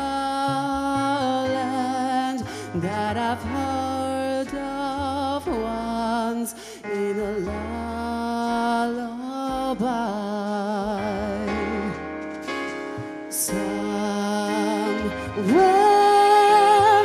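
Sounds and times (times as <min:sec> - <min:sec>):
man singing with vibrato: 0:00.0 - 0:12.1, 0:13.3 - 0:17.0
musical accompaniment: 0:00.0 - 0:17.0.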